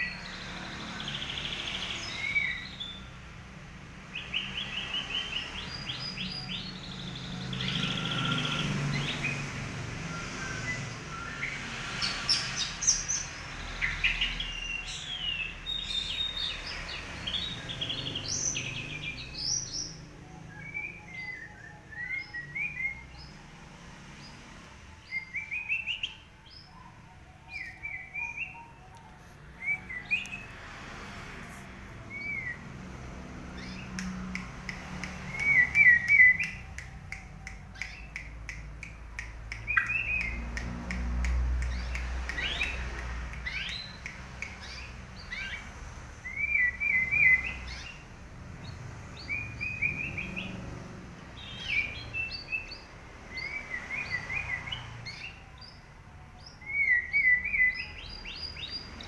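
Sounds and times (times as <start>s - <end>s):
bird singing chirping notes: 0.0s - 23.6s, 24.2s - 59.0s.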